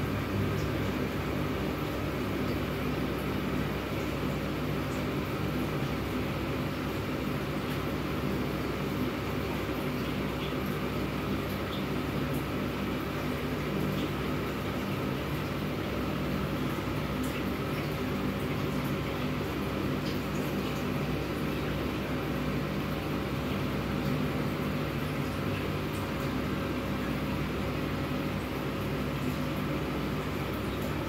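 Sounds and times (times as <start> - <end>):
aquarium pump humming: 0.0 - 31.0.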